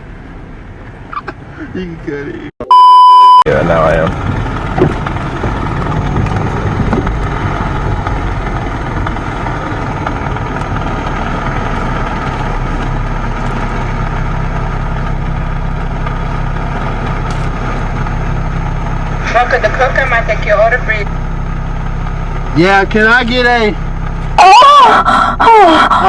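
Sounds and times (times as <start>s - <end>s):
car engine idling: 0.0s - 2.5s, 3.5s - 26.0s.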